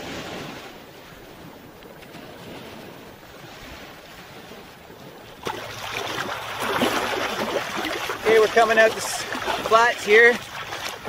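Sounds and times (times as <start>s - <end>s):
small waves washing: 0.0s - 11.0s
water splashing in shallows: 0.0s - 11.0s.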